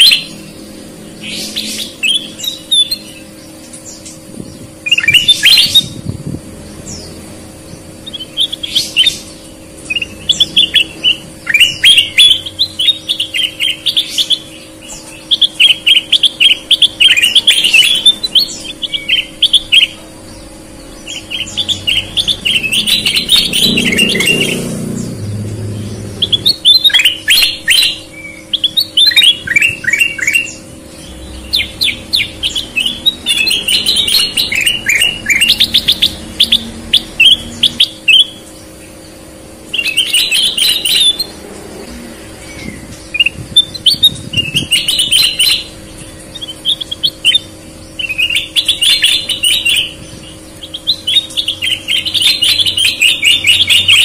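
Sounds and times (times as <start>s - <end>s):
bulbul chattering whistled song: 0.0s - 54.0s.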